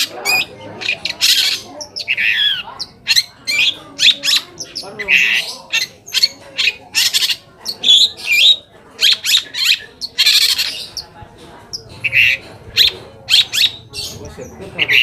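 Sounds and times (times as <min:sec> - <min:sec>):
bird singing harsh scratchy notes: 0:00.0 - 0:15.0.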